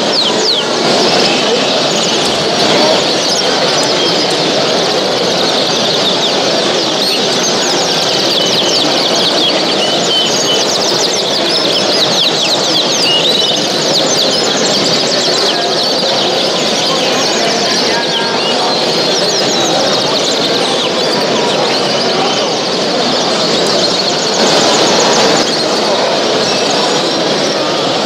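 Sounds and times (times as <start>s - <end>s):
songbirds chirping and trilling: 0.0s - 28.0s
steady hubbub: 0.0s - 28.0s.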